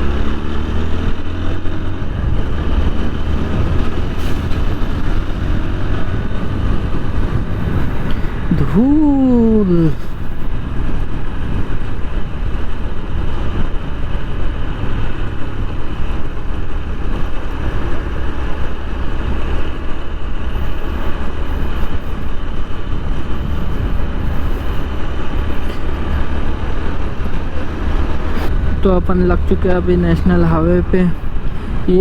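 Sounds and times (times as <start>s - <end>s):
road noise: 0.0s - 32.0s
wind rush on microphone: 0.0s - 32.0s.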